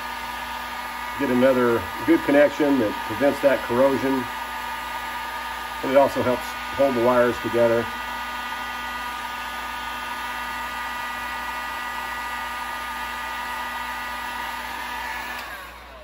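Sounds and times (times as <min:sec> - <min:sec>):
heat gun blowing hiss: 0:00.0 - 0:16.0
heat gun motor whine: 0:00.0 - 0:16.0.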